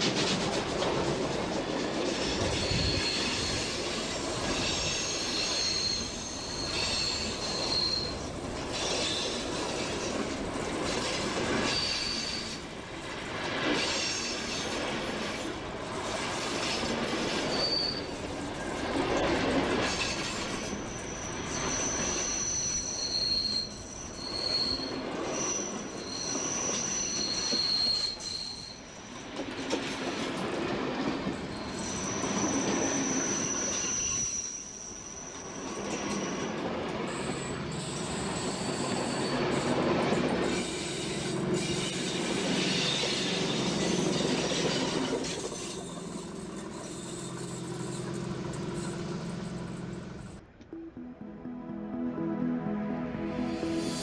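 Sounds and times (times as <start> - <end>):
train wheels squealing: 0.0 - 50.4
railway carriages rumbling on track: 0.0 - 50.6.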